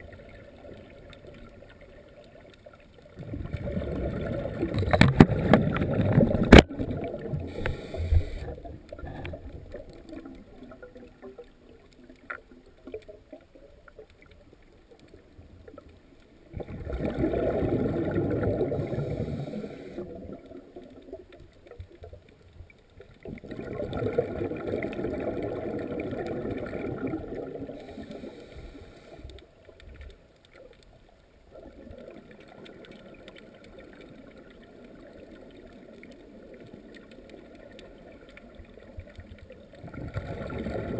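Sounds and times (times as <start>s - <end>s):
exhaled bubbles gurgling: 0.0s - 40.9s.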